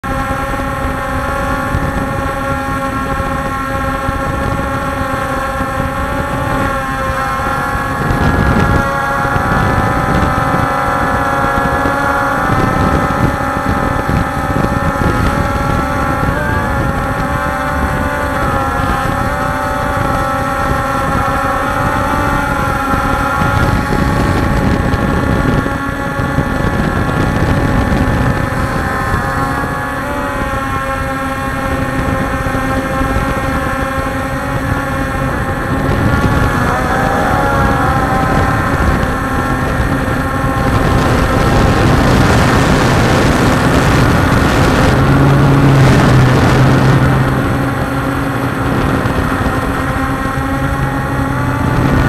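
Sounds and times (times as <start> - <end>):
drone propellers whining: 0.0 - 52.0
wind rumble on microphone: 0.0 - 52.0.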